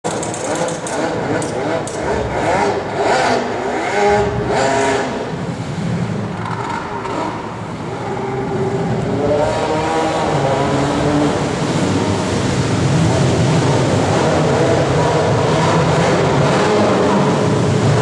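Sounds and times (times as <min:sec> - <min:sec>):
jet ski engine revving: 0:00.1 - 0:18.0.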